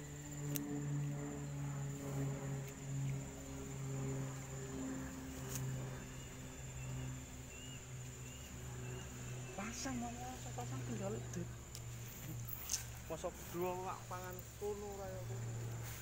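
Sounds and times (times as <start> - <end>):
high-pitched insect trill: 0.0 - 16.0
low droning hum: 0.0 - 16.0.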